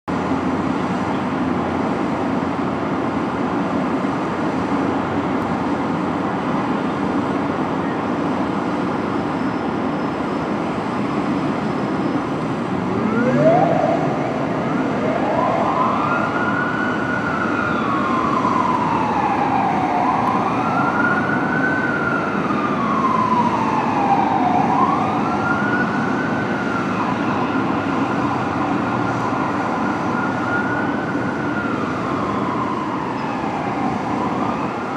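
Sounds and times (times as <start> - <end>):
traffic noise: 0.1 - 34.9
rescue truck siren wailing: 0.2 - 34.9.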